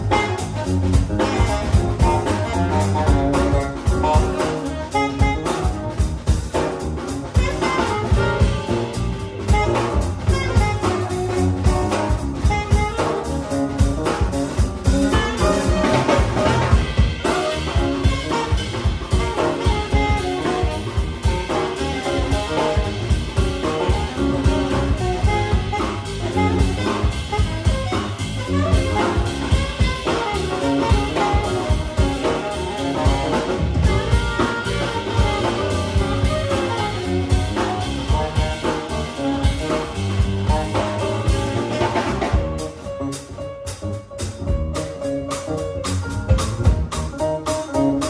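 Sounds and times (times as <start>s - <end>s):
double bass: 0.0s - 48.0s
drum kit with cymbals: 0.0s - 48.0s
piano: 0.0s - 48.0s
saxophone: 0.0s - 48.0s.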